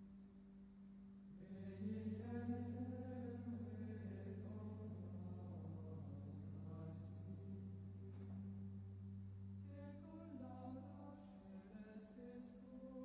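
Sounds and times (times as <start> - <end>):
faint chanted singing: 0.8 - 13.0.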